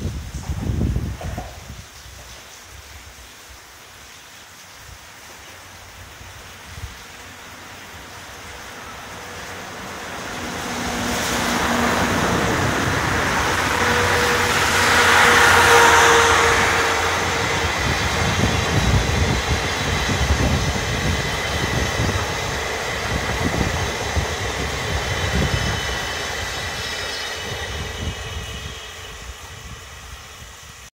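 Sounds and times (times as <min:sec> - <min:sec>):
train wheels rumbling over rail joints: 0:00.0 - 0:02.5, 0:06.4 - 0:30.8.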